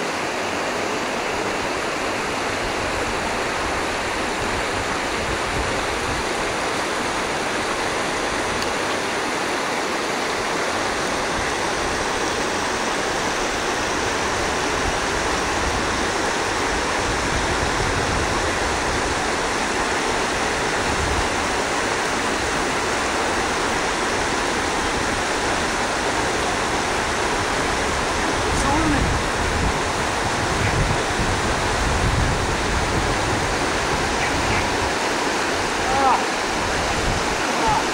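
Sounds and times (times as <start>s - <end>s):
river rushing over stones: 0.0s - 37.9s.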